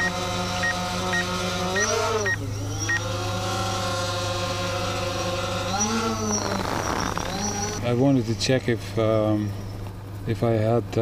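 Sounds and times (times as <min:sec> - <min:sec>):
quadcopter motors whirring: 0:00.0 - 0:10.0.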